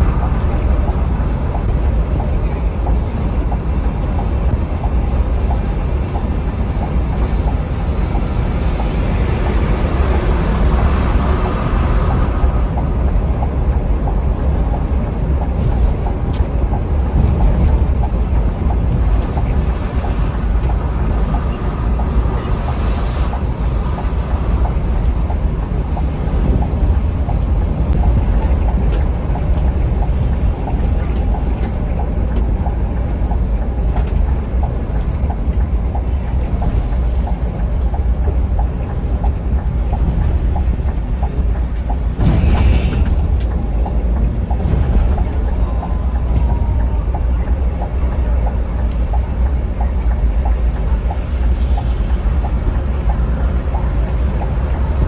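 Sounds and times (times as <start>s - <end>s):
coach engine and road rumble: 0.0s - 55.0s
wind noise: 0.0s - 55.0s.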